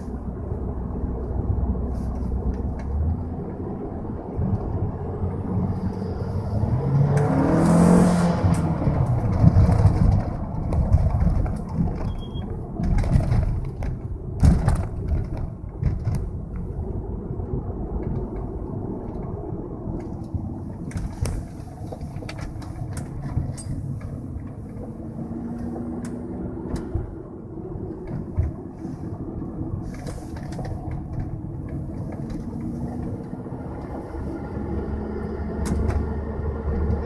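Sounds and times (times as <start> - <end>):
car engine running while driving: 0.0 - 37.0.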